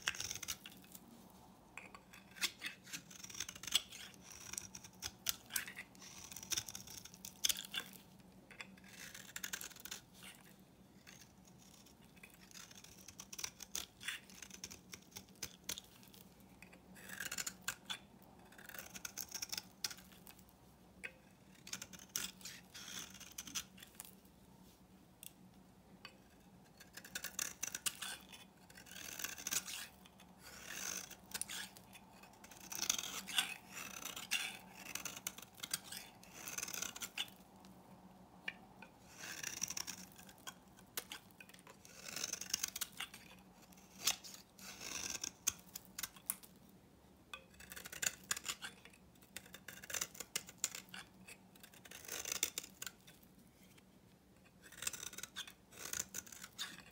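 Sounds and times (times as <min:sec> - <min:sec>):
knife blade scraping soap: 0:00.0 - 0:01.0, 0:01.8 - 0:24.2, 0:26.0 - 0:37.8, 0:38.4 - 0:46.6, 0:47.3 - 0:53.8, 0:54.4 - 0:56.9.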